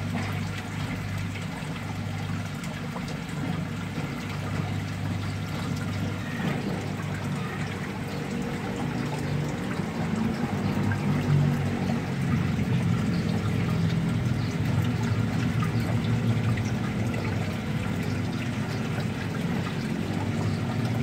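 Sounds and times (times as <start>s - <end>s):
water trickling into tub: 0.0s - 21.0s.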